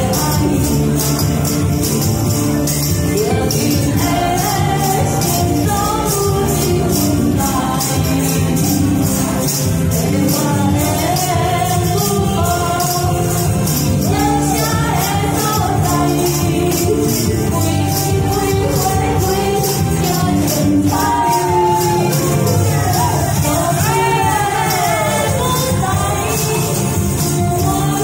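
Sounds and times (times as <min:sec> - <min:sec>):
woman singing into a microphone: 0:00.0 - 0:01.7, 0:02.8 - 0:28.0
tambourines shaken and struck: 0:00.0 - 0:28.0
upbeat backing music: 0:00.0 - 0:28.0.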